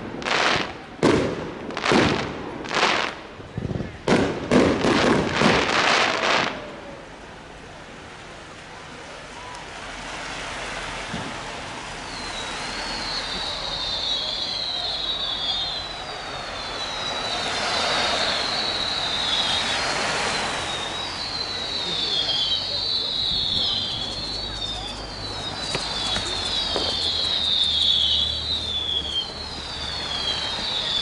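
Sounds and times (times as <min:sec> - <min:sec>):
fireworks whistling: 0:00.0 - 0:07.1, 0:11.0 - 0:31.0
fireworks crackling pops: 0:00.0 - 0:07.2, 0:08.2 - 0:31.0.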